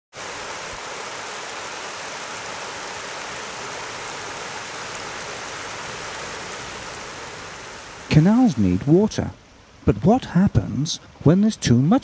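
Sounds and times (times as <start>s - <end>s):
water rushing over weir: 0.1s - 9.8s.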